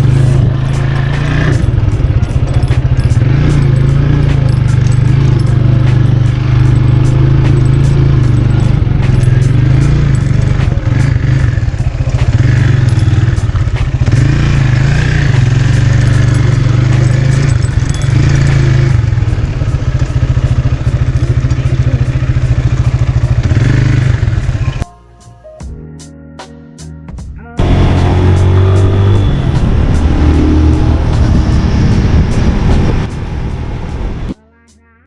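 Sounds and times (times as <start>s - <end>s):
motorcycle engine running: 0.0s - 24.8s, 27.6s - 34.4s.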